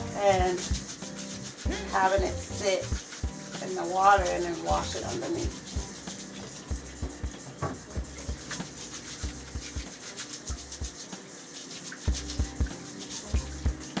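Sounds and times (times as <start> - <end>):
hand scrubbing fruit: 0.0 - 14.0
tap water running: 0.0 - 14.0.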